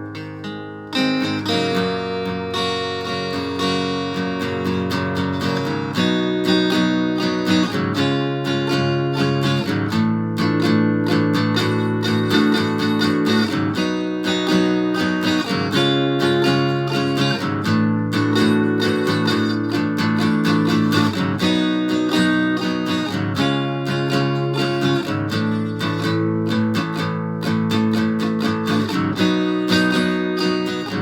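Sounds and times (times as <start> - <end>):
distorted acoustic guitar strumming: 0.0 - 31.0.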